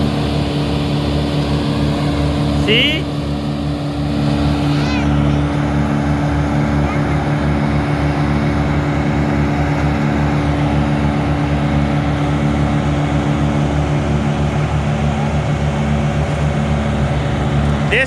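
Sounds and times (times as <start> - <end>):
wood chipper engine droning: 0.0 - 18.0.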